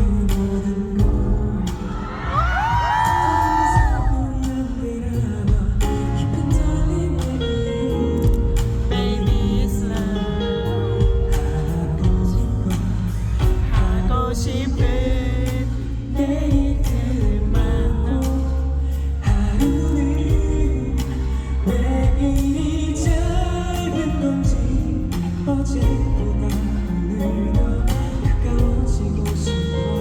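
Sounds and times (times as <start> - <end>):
live pop band: 0.0 - 30.0
person singing: 0.0 - 30.0.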